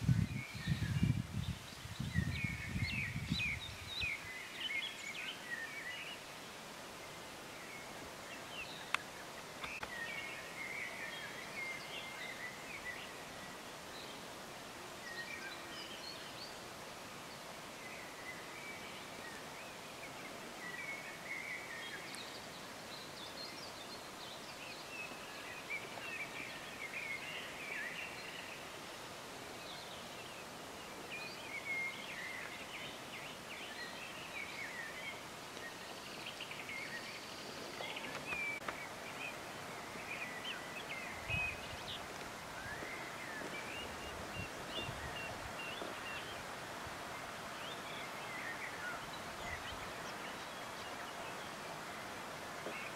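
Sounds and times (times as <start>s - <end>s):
faint outdoor hiss: 0.0s - 52.9s
songbirds chirping: 0.0s - 52.9s.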